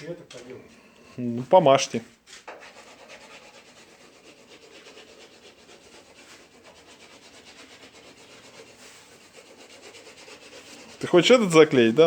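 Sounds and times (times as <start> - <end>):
rubbing on hard surface: 1.6 - 12.0.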